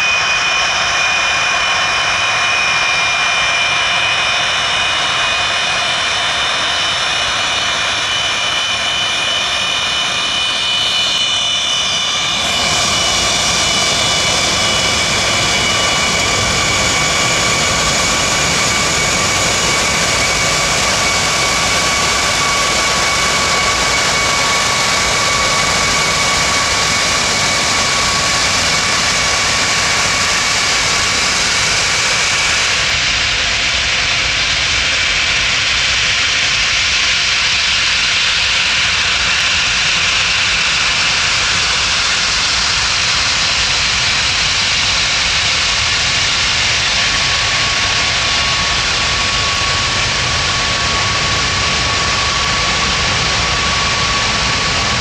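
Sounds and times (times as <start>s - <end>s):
aircraft engines roaring: 0.0s - 55.0s
high engine whine: 0.0s - 55.0s.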